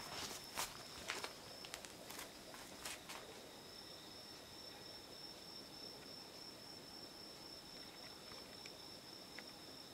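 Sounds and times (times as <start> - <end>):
crickets trilling: 0.0 - 9.9
low background hiss: 0.0 - 9.9.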